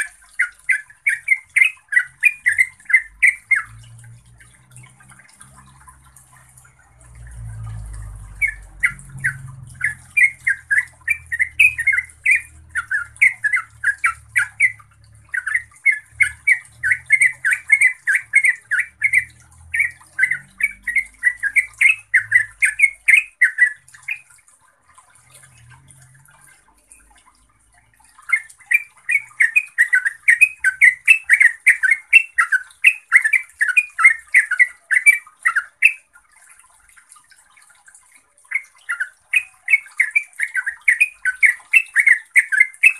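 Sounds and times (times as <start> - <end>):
bird singing chattering notes: 0.0 - 6.0, 7.8 - 24.3, 28.1 - 36.1, 38.5 - 42.9.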